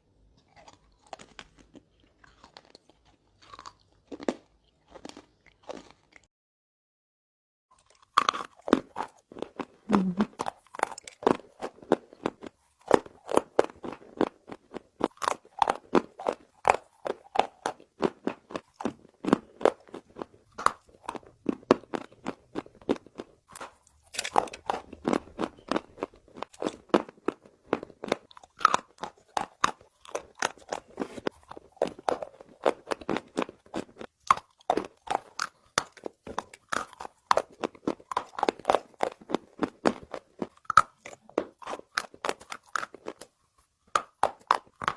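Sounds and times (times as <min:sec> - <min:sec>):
chewing brittle crunches: 0:00.3 - 0:06.3, 0:07.7 - 0:44.9.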